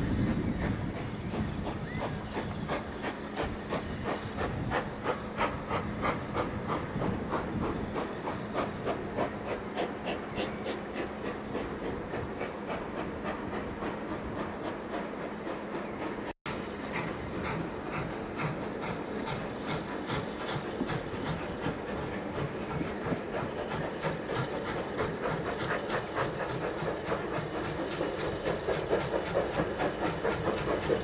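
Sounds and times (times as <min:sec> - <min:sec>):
steam hissing: 0:00.0 - 0:31.0
steam locomotive chuffing: 0:00.0 - 0:31.0.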